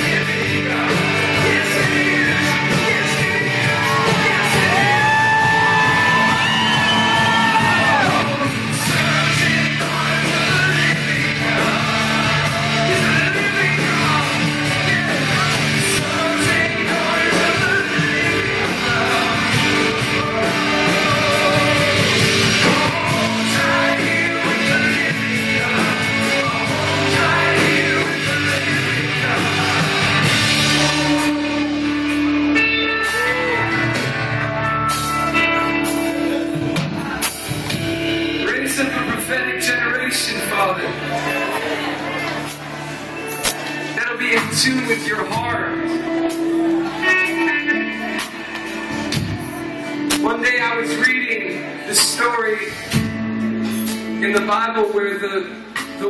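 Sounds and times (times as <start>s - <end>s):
band playing worship music: 0.0s - 56.0s
person singing: 0.0s - 56.0s.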